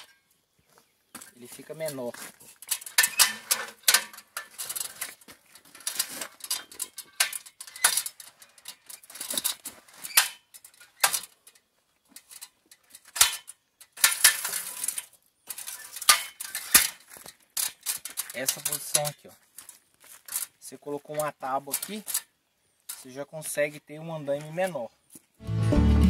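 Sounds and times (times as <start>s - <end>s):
metal ladder clanking and clicking: 0.0s - 0.2s, 1.2s - 22.3s
ladder rattling and scraping: 1.2s - 22.3s.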